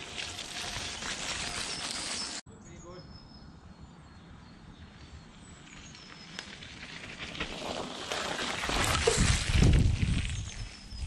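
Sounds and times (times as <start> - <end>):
bike tyres on dirt trail: 0.0 - 2.5, 4.2 - 11.0.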